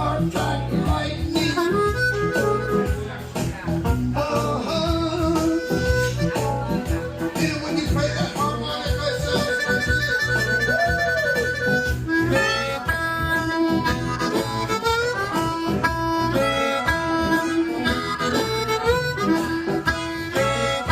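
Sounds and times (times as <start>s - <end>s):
blues harmonica bending notes: 0.0s - 20.9s
guitar accompaniment: 0.0s - 20.9s.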